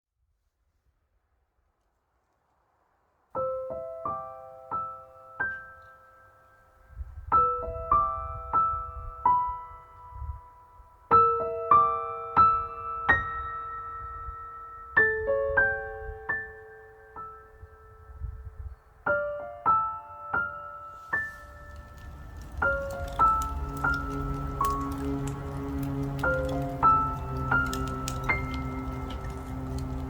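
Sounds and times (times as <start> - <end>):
gentle piano melody: 3.3 - 30.0.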